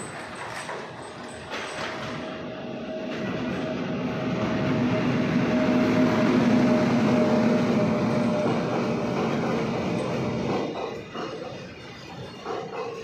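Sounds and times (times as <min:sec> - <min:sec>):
locomotive hum: 0:00.0 - 0:13.0
train wheels rumbling on rail: 0:00.0 - 0:13.0.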